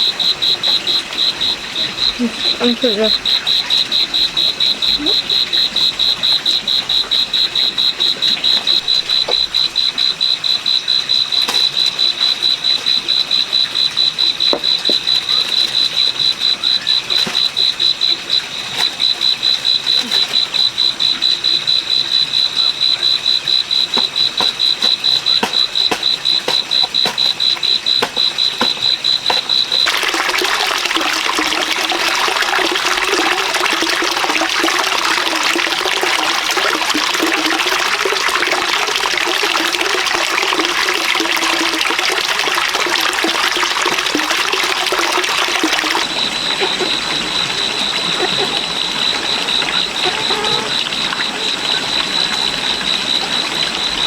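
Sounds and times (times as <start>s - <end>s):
high-pitched insect chirping: 0.0s - 54.0s
running water rushing: 0.0s - 54.0s.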